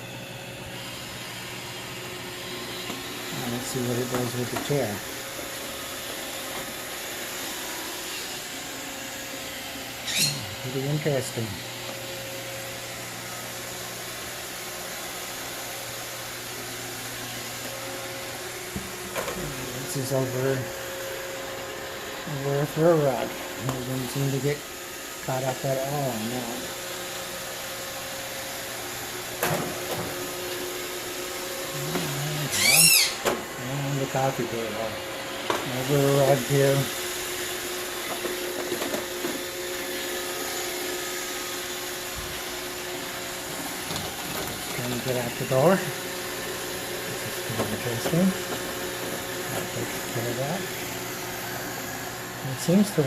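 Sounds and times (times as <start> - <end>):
robot vacuum whirring: 0.0 - 53.0.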